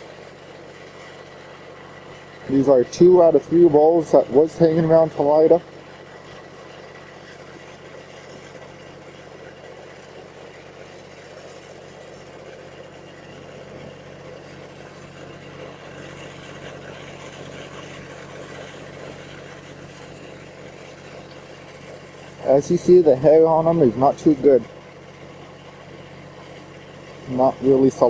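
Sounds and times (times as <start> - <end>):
constant hiss: 0.0 - 28.0
low engine-like hum: 0.0 - 28.0.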